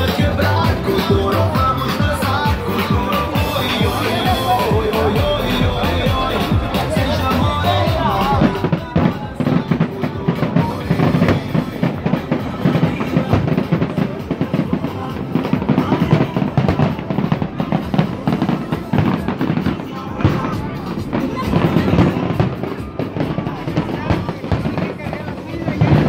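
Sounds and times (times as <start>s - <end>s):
music with drum beat: 0.0s - 26.0s.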